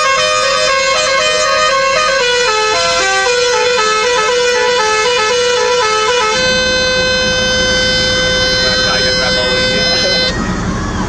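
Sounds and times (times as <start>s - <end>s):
electronic musical vehicle horn: 0.0s - 10.4s.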